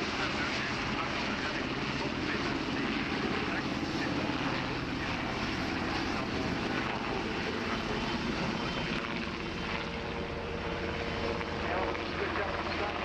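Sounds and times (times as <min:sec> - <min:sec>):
helicopter rotors and engines: 0:00.0 - 0:13.0.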